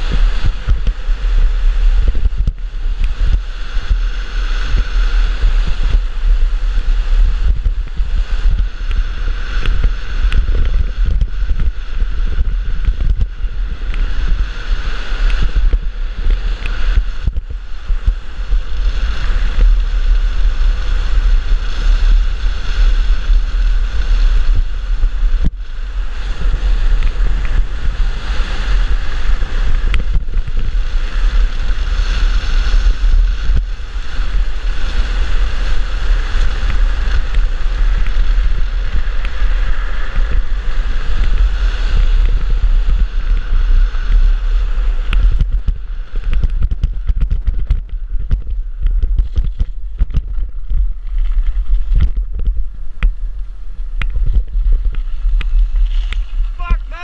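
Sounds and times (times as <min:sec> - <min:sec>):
wheels rumbling on asphalt: 0:00.0 - 0:57.0
wind buffeting microphone: 0:00.0 - 0:57.0.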